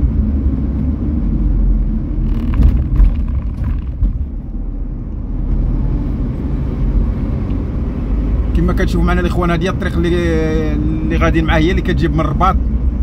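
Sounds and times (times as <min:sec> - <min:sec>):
car driving on road: 0:00.0 - 0:13.0.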